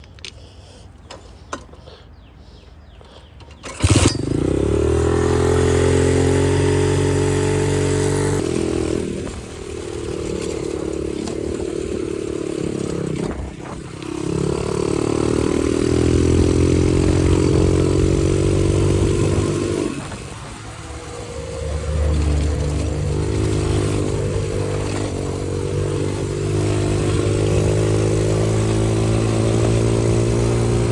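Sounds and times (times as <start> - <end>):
dirt bike engine revving: 3.6 - 30.9.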